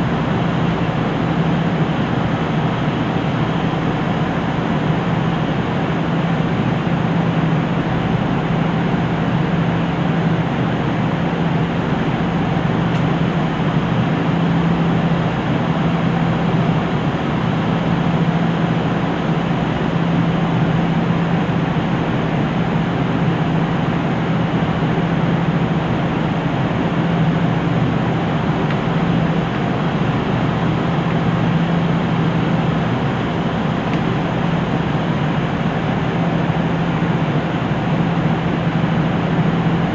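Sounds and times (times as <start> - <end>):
diesel train engines idling: 0.0 - 39.9.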